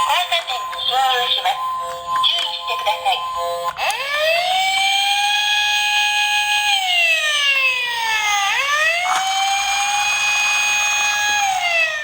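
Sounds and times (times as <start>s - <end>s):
toy siren wailing: 0.6s - 12.0s.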